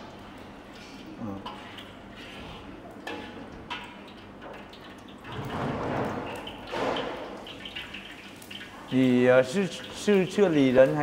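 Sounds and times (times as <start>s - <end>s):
lard crackling and sizzling: 0.0s - 11.0s.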